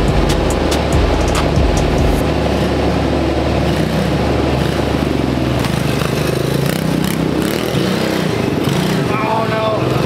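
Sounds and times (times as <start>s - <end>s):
pit bike engine running: 0.0s - 10.0s.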